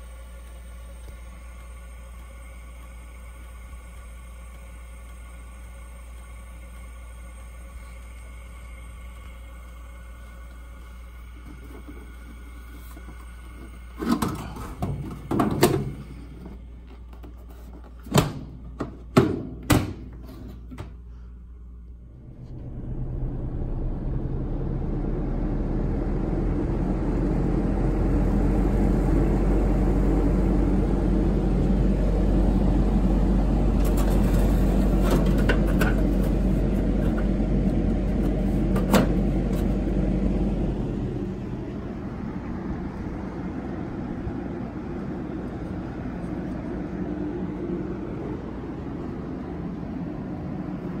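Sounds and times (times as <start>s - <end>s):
blower fan rushing air: 0.0s - 51.0s.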